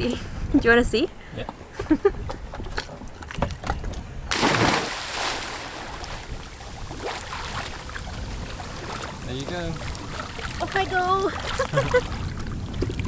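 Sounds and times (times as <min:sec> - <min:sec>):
water sloshing and rushing: 0:01.5 - 0:13.0.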